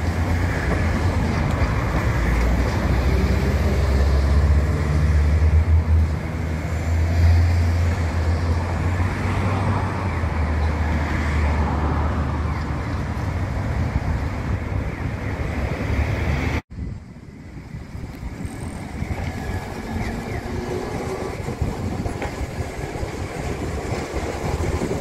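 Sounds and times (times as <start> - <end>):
road traffic: 0.0 - 25.0
tram wheels rumbling on track: 0.0 - 25.0.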